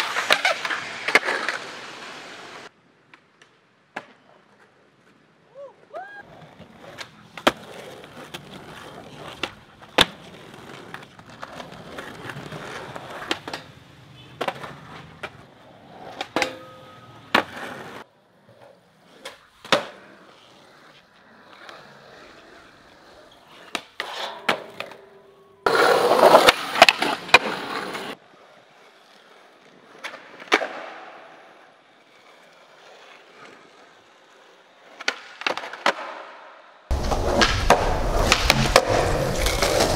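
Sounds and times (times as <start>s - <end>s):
skateboard tail clacks and landings: 0.0s - 5.2s, 6.3s - 28.2s, 29.1s - 39.9s
skateboard rolling on pavement: 0.0s - 39.9s.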